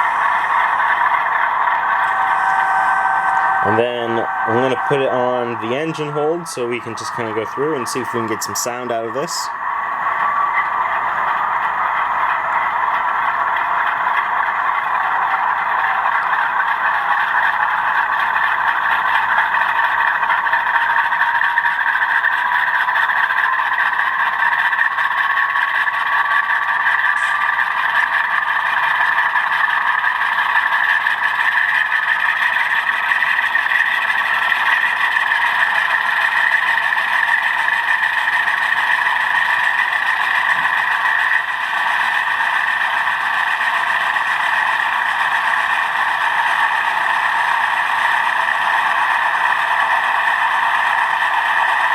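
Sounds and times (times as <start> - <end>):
model locomotive diesel engine sound: 0.0 - 51.9.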